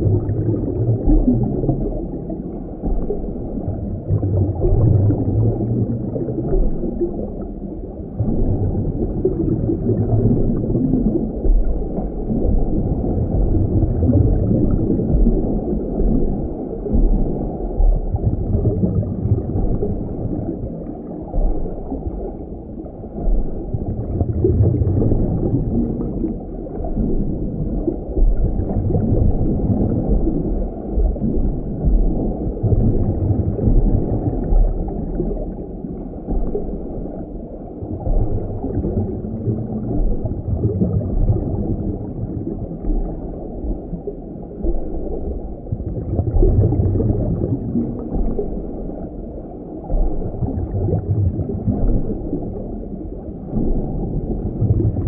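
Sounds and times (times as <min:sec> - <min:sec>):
muffled underwater rushing: 0:00.0 - 0:55.0.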